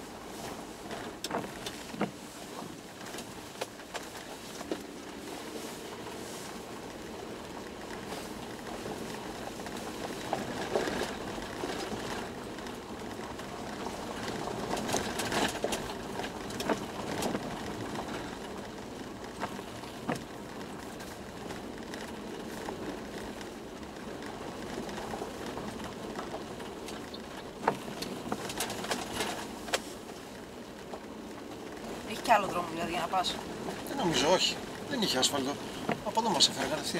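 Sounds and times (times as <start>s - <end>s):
road and engine noise: 0.0s - 36.9s.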